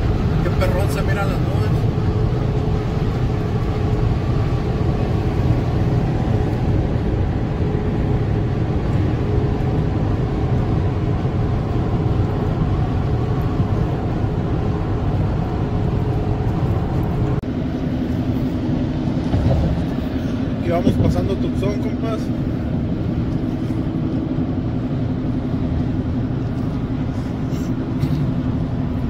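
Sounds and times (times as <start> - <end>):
road and engine noise: 0.0 - 29.0
low hum: 1.2 - 29.0.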